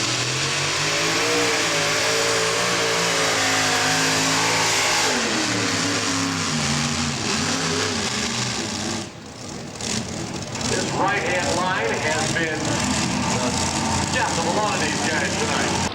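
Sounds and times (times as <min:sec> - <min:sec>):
tractor engines running at high revs: 0:00.0 - 0:15.9.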